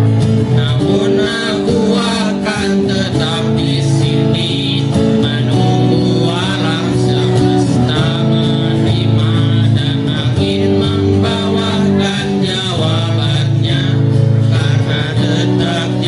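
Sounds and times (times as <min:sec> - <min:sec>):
guitar chords: 0:00.0 - 0:16.0
person singing: 0:00.4 - 0:16.0.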